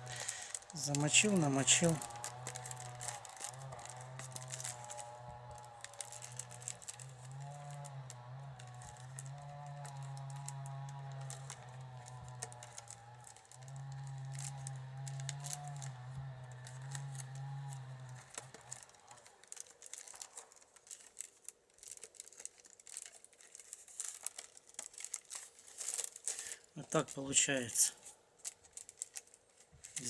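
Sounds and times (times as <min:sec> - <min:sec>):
wicker rods clicking and crackling: 0:00.0 - 0:30.0.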